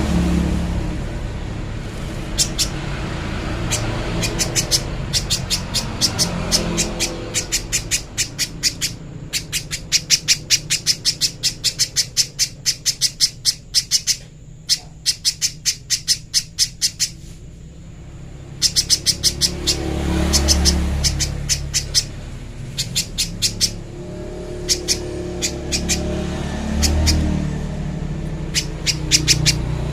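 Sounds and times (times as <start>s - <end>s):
low background rumble: 0.0s - 29.9s
bird calling sharp high notes: 2.2s - 17.2s, 18.5s - 27.6s, 28.4s - 29.9s.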